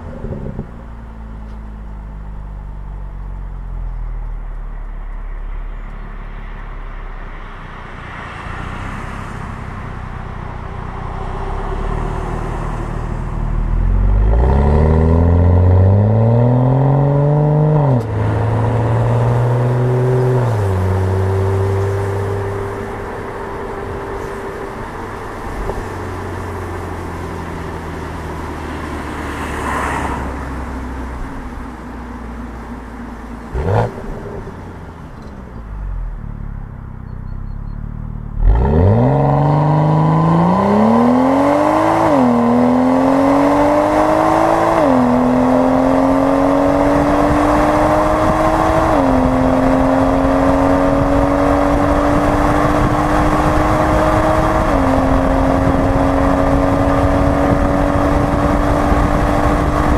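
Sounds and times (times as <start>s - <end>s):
car engine revving and accelerating: 8.0s - 31.5s, 33.4s - 36.2s, 37.8s - 59.9s.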